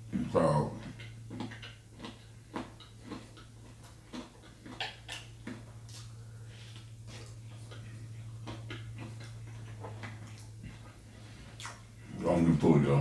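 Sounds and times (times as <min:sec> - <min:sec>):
person chewing meat: 0:00.0 - 0:12.2
steady low hum: 0:00.0 - 0:13.0
lip smacks: 0:00.8 - 0:12.0.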